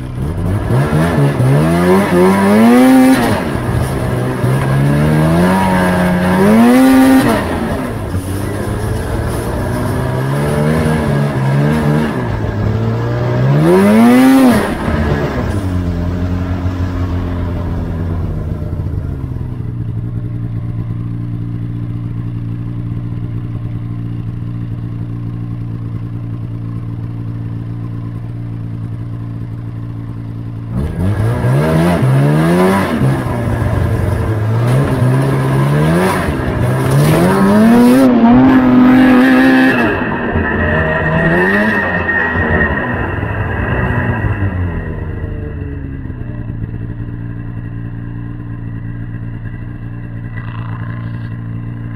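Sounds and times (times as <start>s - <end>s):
vehicle engine revving: 0.0s - 21.2s, 28.9s - 51.9s.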